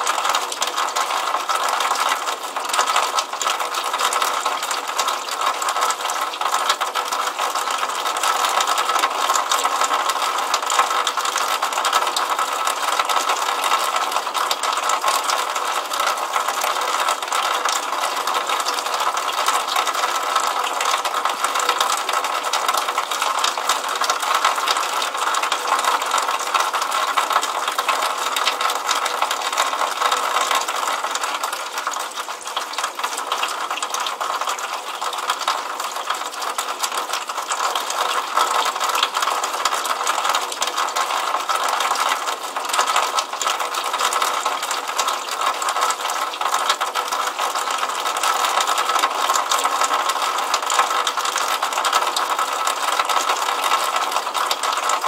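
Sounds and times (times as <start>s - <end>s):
water splashing from downspout: 0.0s - 55.0s.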